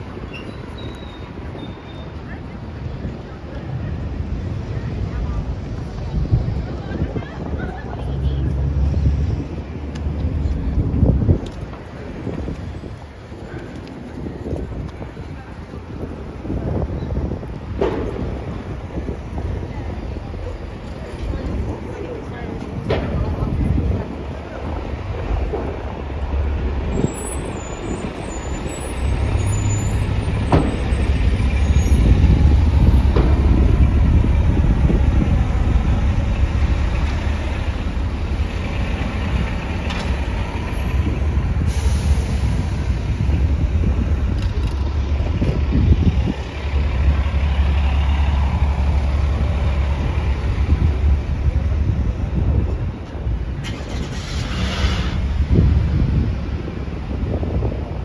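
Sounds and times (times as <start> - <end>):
city street traffic: 0.0 - 58.0
heavy vehicle engine rumble: 0.0 - 58.0.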